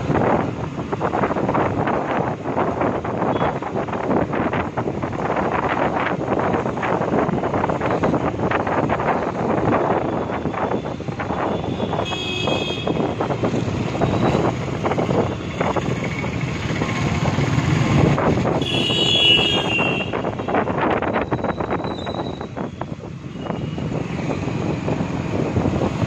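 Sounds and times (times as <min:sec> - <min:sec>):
wind buffeting microphone: 0:00.0 - 0:18.7, 0:19.4 - 0:26.0
vehicle road noise: 0:00.0 - 0:26.0.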